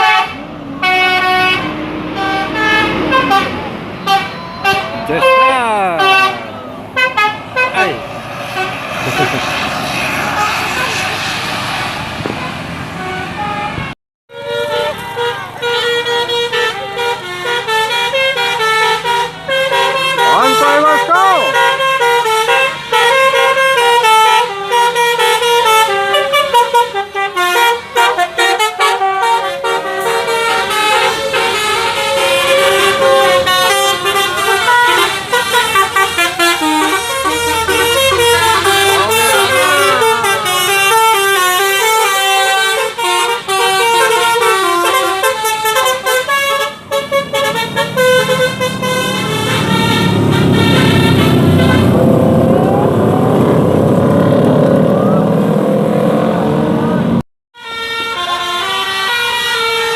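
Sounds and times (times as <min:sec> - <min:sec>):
bus engine: 0:00.0 - 0:59.9
multi-tone bus horns playing melodies: 0:00.0 - 0:59.9.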